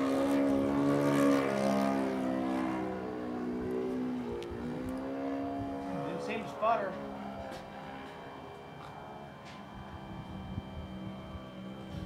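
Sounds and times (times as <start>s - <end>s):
model airplane engine drone: 0.0s - 12.0s.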